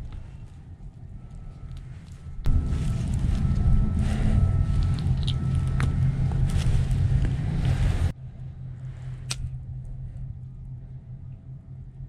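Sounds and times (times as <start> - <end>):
quiet hum: 0.0 - 12.0
steady low rumble: 0.0 - 12.0.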